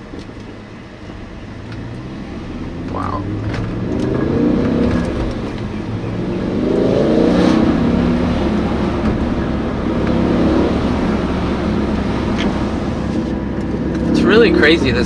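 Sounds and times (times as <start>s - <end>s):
car engine accelerating hard: 1.3s - 15.0s.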